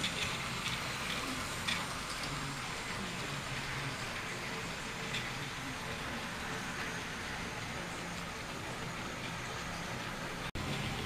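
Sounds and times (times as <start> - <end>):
model train motor hum and wheel rumble: 0.0 - 11.0.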